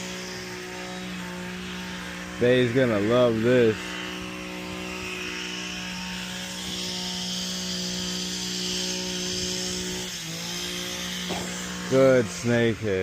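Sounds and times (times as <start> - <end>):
motor droning hum: 0.0 - 13.0.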